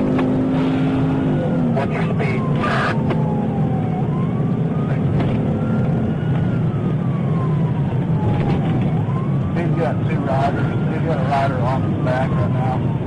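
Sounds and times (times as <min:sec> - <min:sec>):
car engine and road noise: 0:00.0 - 0:13.0
police siren wailing: 0:00.0 - 0:13.0.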